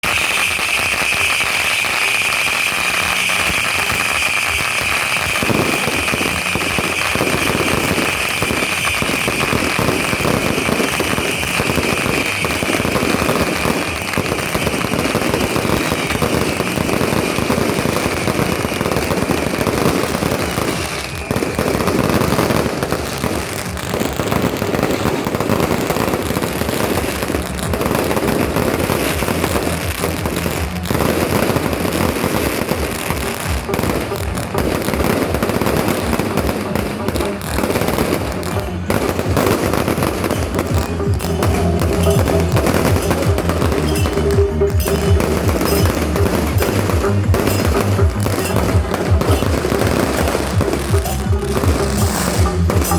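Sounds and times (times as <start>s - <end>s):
firecrackers crackling: 0.0s - 52.9s.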